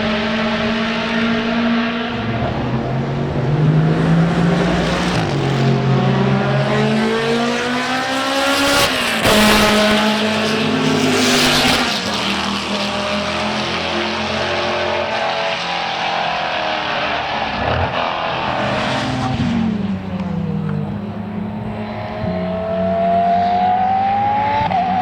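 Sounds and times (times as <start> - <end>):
racing car engine accelerating: 0.0 - 25.0.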